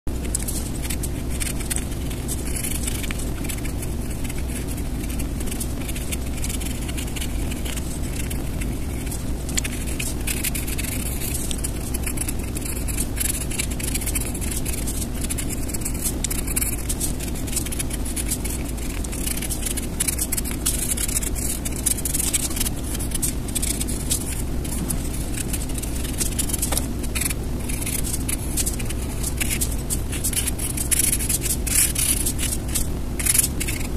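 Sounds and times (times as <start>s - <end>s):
pencil scratching on paper: 0.1s - 33.9s.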